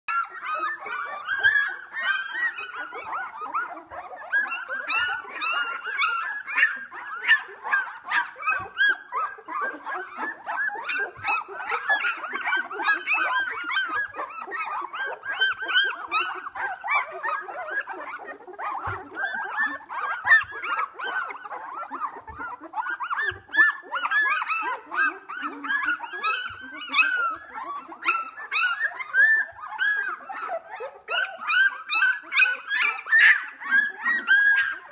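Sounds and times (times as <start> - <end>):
puppies whimpering and squeaking: 0.1 - 34.9.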